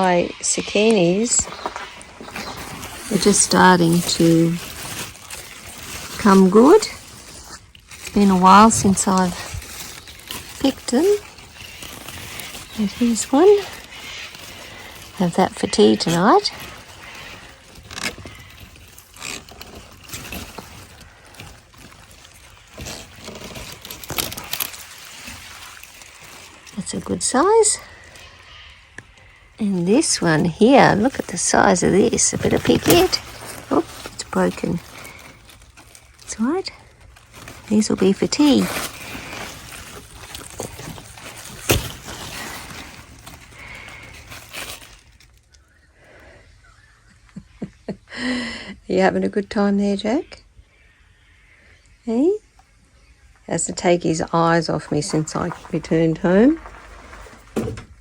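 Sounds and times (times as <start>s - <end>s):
plant stems crackling: 0.0s - 46.3s, 53.4s - 58.0s
large leaves rustling: 0.0s - 48.4s, 53.5s - 58.0s.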